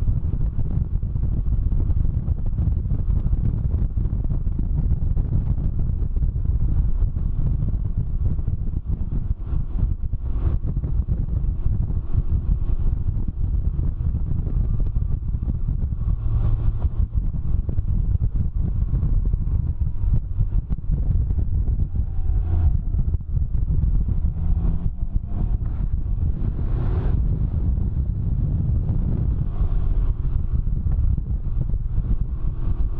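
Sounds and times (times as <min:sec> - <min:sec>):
motorcycle engine running: 0:00.0 - 0:32.9
wind buffeting microphone: 0:00.0 - 0:32.9.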